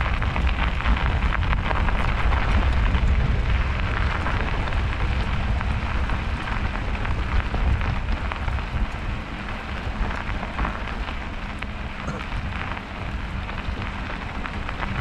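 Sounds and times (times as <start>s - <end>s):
bicycle tyres on snow: 0.0s - 15.0s
faint crackles: 0.0s - 15.0s
wind rumble on microphone: 0.0s - 15.0s.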